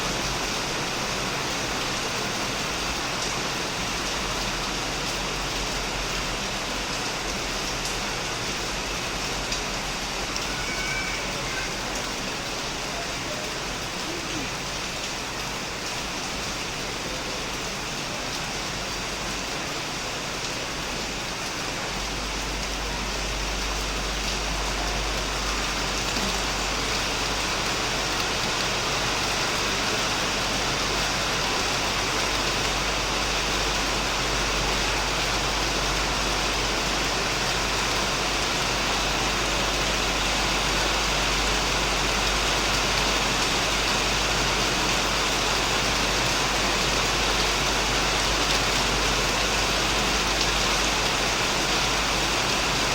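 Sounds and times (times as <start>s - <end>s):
heavy rain on a roof: 0.0s - 52.9s.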